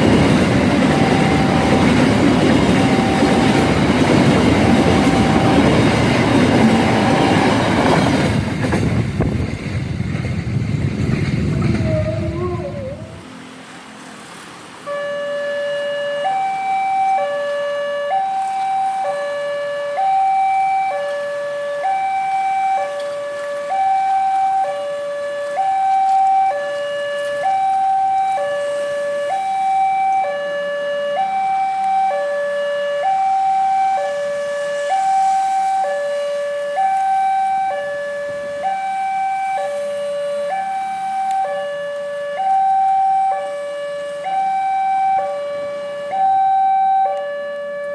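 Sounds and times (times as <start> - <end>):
two-tone crossing alarm: 0.0 - 8.5, 14.8 - 47.9.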